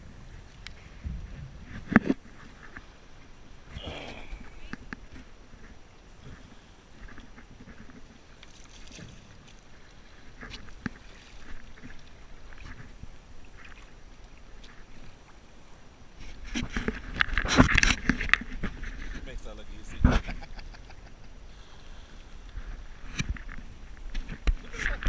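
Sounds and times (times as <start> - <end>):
water splashing around kayak: 0.0 - 25.0.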